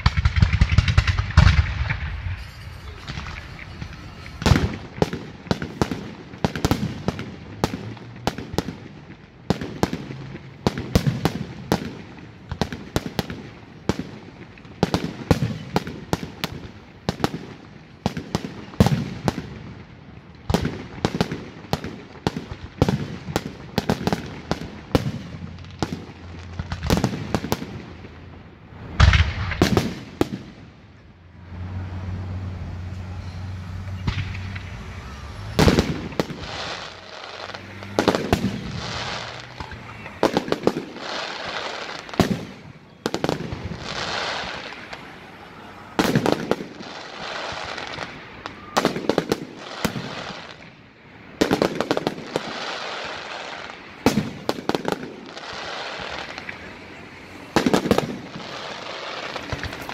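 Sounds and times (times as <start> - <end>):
fireworks bursts and crackles: 0.0 - 59.9.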